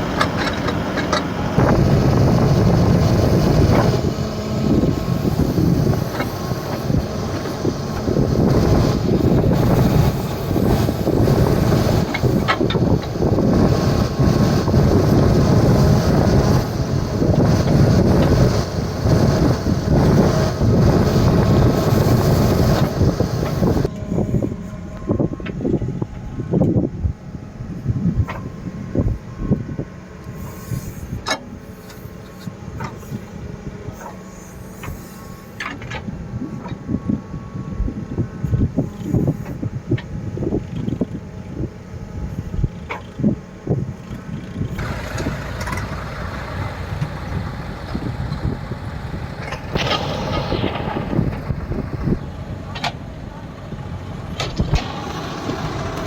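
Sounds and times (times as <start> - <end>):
diesel engine of heavy machinery: 0.0 - 56.0
wind buffeting microphone: 0.0 - 56.0.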